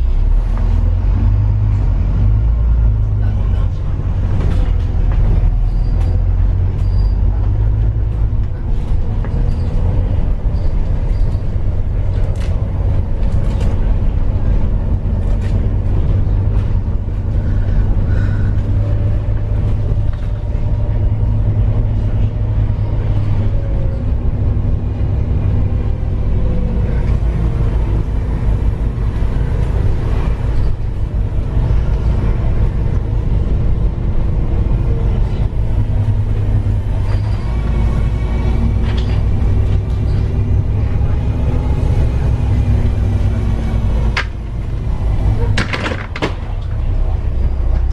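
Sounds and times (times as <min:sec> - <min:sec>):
road vehicle rumble: 0:00.0 - 0:47.9.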